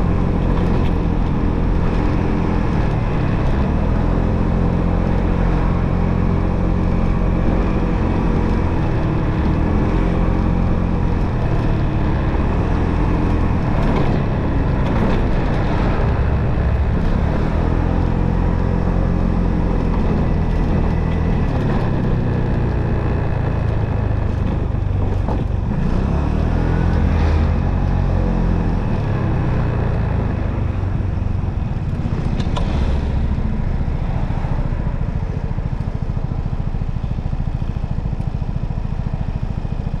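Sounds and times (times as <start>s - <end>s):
motorcycle engine revving: 0.0s - 40.0s
wind and road noise: 0.0s - 40.0s.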